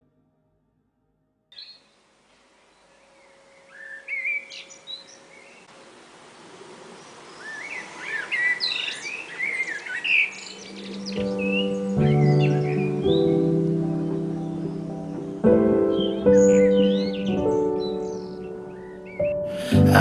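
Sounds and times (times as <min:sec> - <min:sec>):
background hiss: 0:01.6 - 0:20.0
birds chirping: 0:01.6 - 0:20.0.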